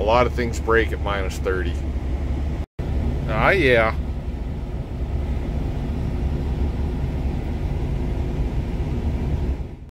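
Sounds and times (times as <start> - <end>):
diesel engine idling: 0.0 - 9.9.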